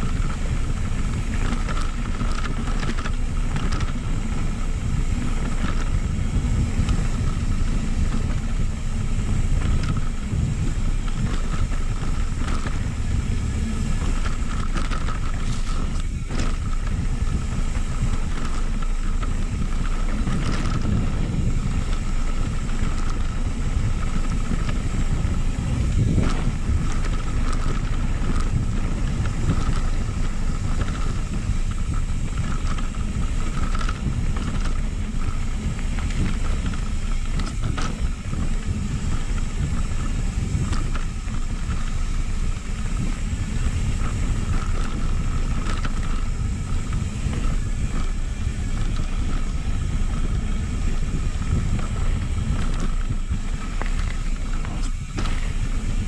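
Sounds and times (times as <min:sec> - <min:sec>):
bike knocking and rattling: 0:00.0 - 0:56.0
bike tyre rumble on dirt: 0:00.0 - 0:56.0
wind buffeting microphone: 0:00.0 - 0:56.0.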